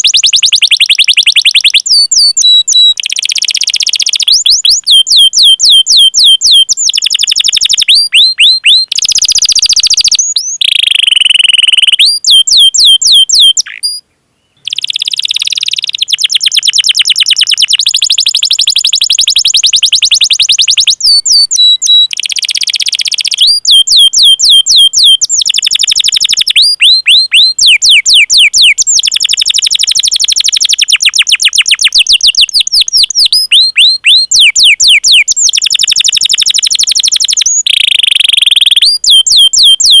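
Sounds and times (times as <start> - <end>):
canary singing with trills: 0.0 - 40.0.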